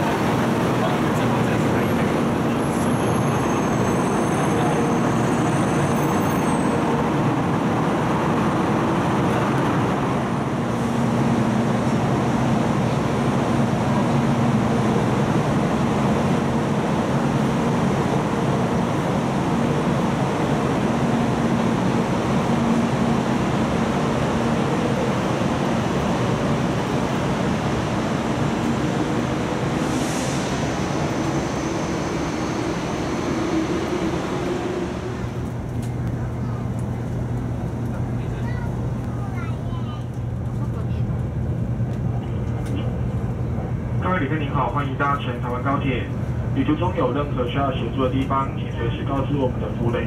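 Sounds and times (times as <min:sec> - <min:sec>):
train rumble and hum echoing: 0:00.0 - 0:50.0.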